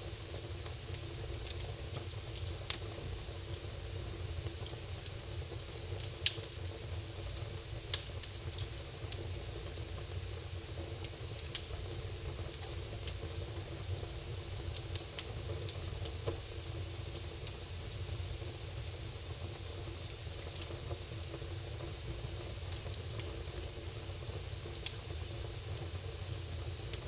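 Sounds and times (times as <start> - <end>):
fire crackling in a fireplace: 0.0 - 27.0.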